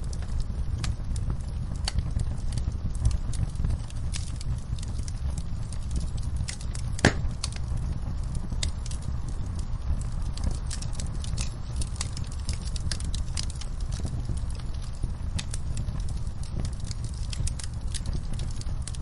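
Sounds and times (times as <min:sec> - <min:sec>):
fire snaps and pops: 0:00.0 - 0:19.0
low fire rumble: 0:00.0 - 0:19.0
wood fire crackling: 0:00.0 - 0:19.0.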